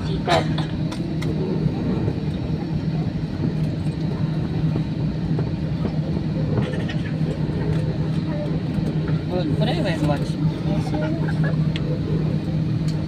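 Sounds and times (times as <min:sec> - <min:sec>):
airliner cabin rumble: 0:00.0 - 0:13.0
constant hum: 0:00.0 - 0:13.0.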